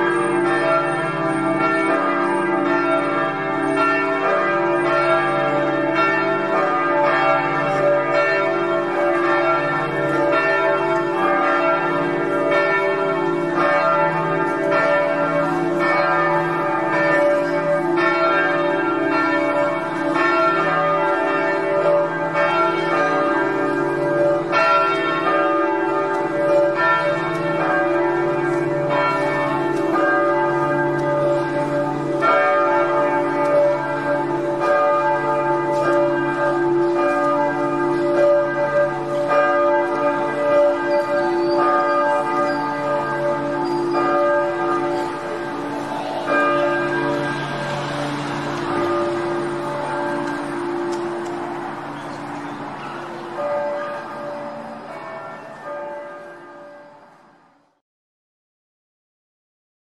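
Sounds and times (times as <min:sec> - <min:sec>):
church bells pealing: 0:00.0 - 0:57.8.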